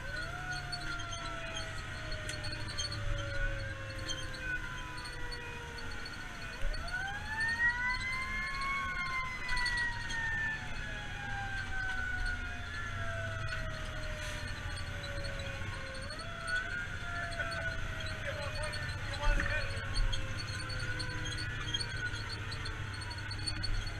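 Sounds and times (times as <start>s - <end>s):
fire engine siren wailing: 0.0s - 23.9s
low engine rumble: 0.0s - 23.9s.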